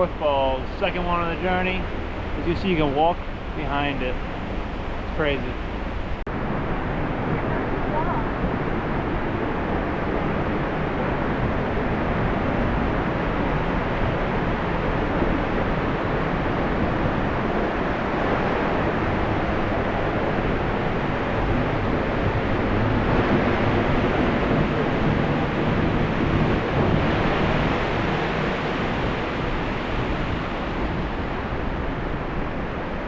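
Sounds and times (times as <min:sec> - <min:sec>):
waterfall rushing: 0:06.3 - 0:33.0.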